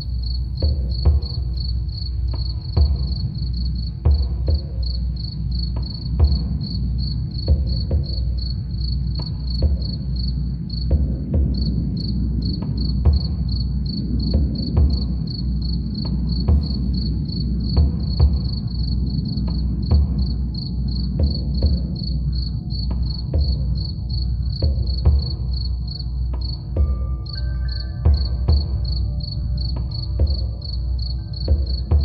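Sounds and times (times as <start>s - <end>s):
constant low hum: 0.0s - 32.0s
cricket chirping: 0.0s - 32.0s
deep drum beating softly: 0.0s - 32.0s.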